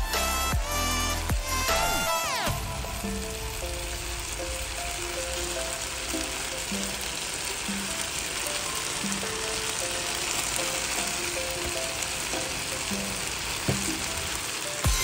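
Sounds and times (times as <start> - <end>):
light background music: 0.0 - 15.0
vegetables sizzling in a frying pan: 0.1 - 15.0.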